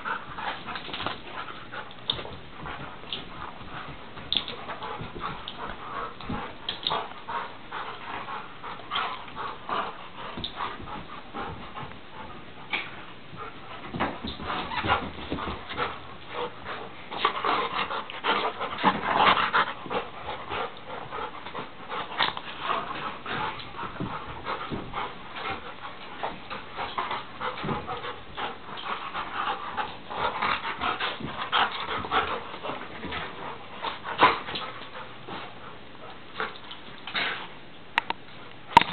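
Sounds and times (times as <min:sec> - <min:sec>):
dogs tussling: 0:00.0 - 0:37.6
dogs panting: 0:00.0 - 0:37.7.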